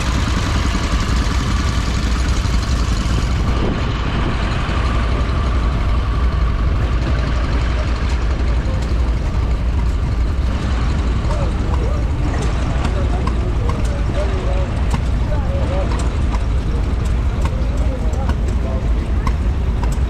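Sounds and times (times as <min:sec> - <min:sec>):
stationary engine running: 0:00.0 - 0:20.0.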